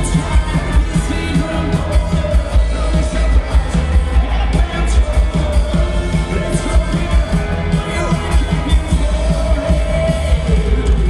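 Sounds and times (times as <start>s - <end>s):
arena crowd: 0.0s - 11.0s
live rock band: 0.0s - 11.0s.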